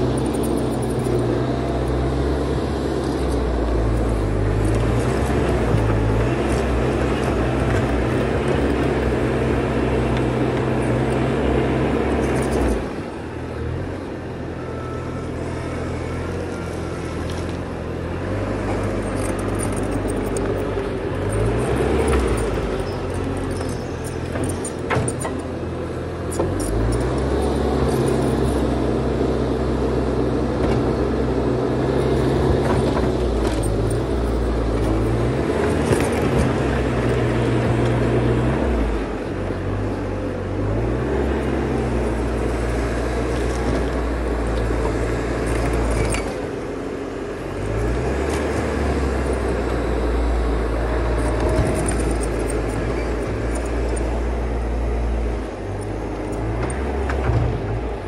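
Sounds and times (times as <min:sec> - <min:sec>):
loader diesel engine running: 0:00.0 - 0:58.0.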